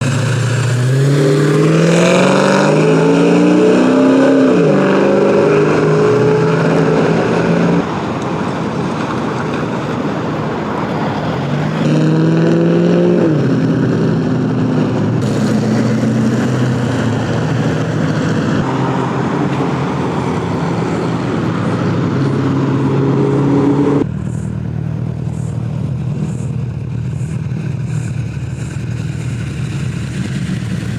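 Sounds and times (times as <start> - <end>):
car engines revving: 0.0 - 30.9.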